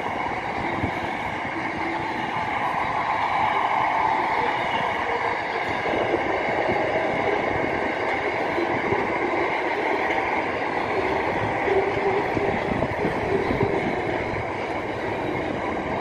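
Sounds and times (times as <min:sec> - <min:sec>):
train wheels clattering over rails: 0:00.0 - 0:16.0.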